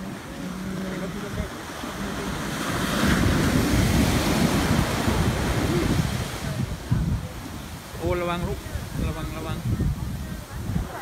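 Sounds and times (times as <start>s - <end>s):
sea surf breaking: 0.0s - 11.0s
wind buffeting microphone: 0.0s - 11.0s.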